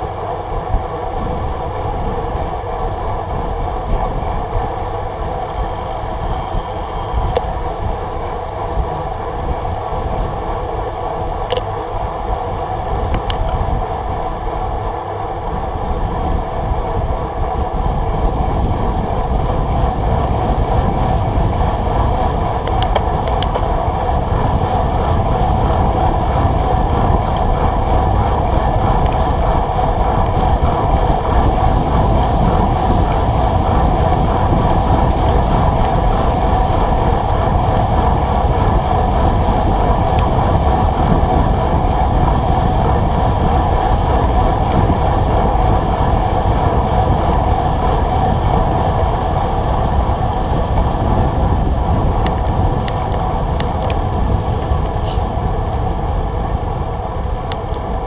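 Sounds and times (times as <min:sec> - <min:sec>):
bike tyres humming on asphalt: 0:00.0 - 0:58.0
wind buffeting microphone: 0:00.0 - 0:58.0.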